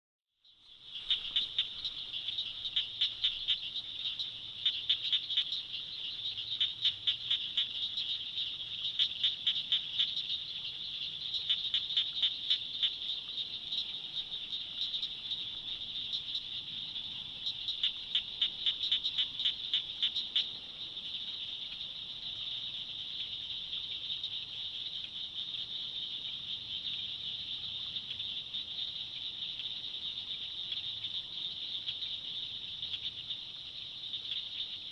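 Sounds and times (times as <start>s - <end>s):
rapid clicking calls: 0.8s - 34.9s.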